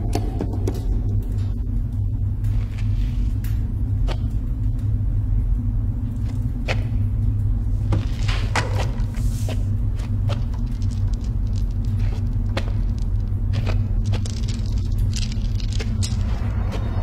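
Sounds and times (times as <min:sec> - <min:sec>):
faint clicks and crackles: 0:00.0 - 0:17.0
low rumbling drone: 0:00.0 - 0:17.0.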